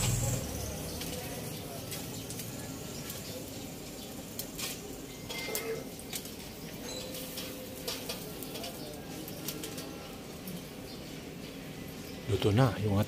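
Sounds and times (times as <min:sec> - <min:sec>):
meat sizzling on grill: 0:00.0 - 0:12.4.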